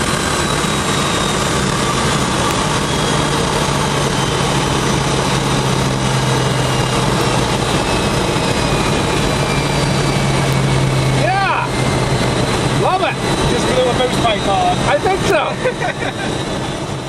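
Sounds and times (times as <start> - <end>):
car engine hum: 0.0 - 17.0
road and wind noise: 0.0 - 17.0.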